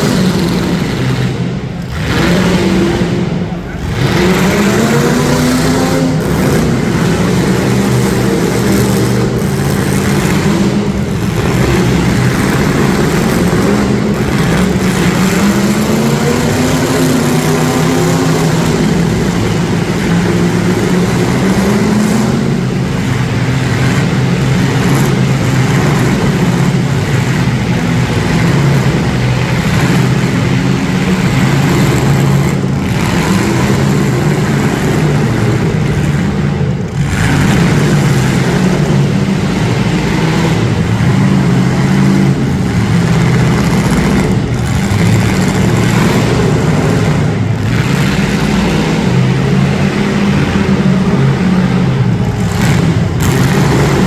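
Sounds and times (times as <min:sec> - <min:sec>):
car engines revving hard: 0:00.0 - 0:54.0.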